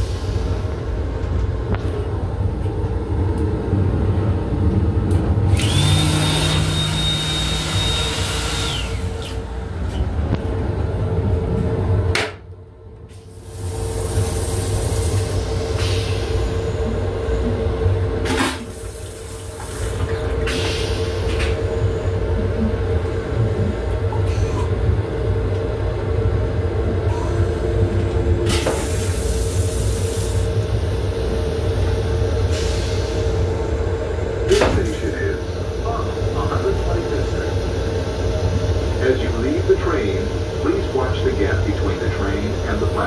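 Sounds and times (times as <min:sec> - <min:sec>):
moving railcar rumble: 0:00.0 - 0:43.0
toilet flushing with high whine: 0:03.6 - 0:09.8, 0:13.1 - 0:43.0.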